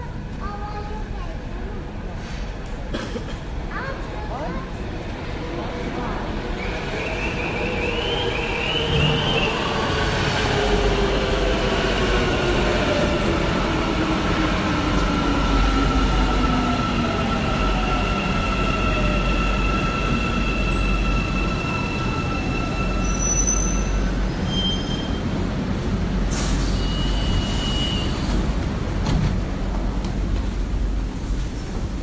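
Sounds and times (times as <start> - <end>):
low train rumble: 0.0 - 32.0.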